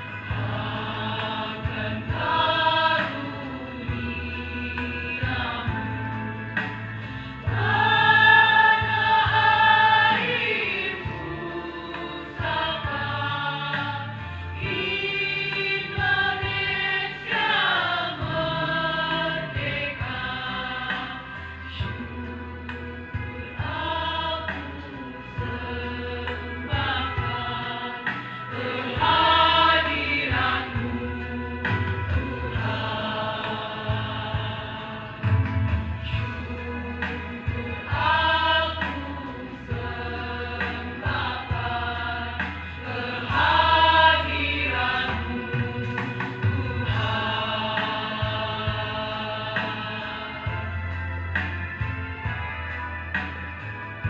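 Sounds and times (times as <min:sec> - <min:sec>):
choir singing: 0:00.0 - 0:52.3
low instrumental accompaniment: 0:00.0 - 0:54.0.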